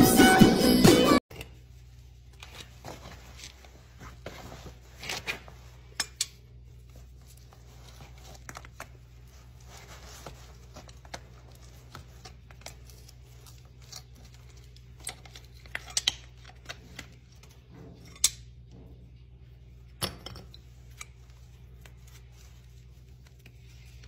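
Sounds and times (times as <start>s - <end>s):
low steady hum: 1.3s - 24.0s.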